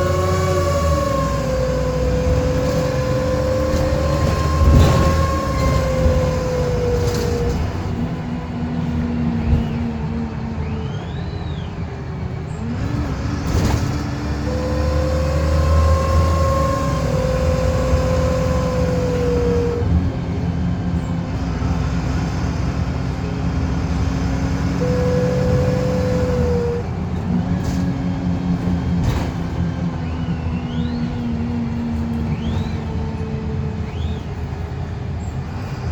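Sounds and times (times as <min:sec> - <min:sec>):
bus engine rumbling: 0:00.0 - 0:35.9
pitched whirring whine: 0:00.0 - 0:35.9.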